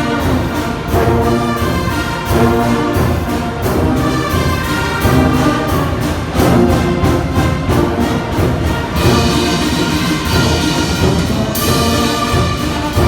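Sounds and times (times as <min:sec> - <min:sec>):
brass band playing a hymn: 0:00.0 - 0:13.0.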